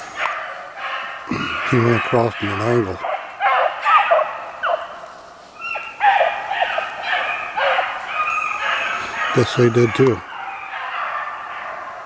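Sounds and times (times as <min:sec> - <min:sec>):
hounds baying and yelping: 0:00.0 - 0:12.0.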